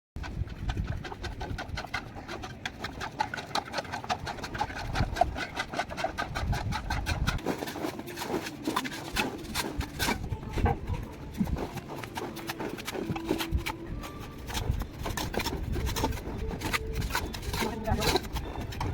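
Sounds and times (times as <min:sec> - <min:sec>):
trowel scraping and tapping: 0:00.2 - 0:18.9.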